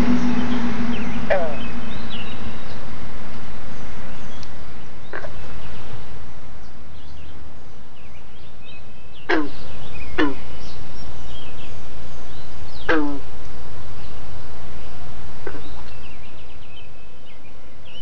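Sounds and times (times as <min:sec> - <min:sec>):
frogs calling: 0:00.0 - 0:18.0
steady low rumble: 0:00.0 - 0:18.0.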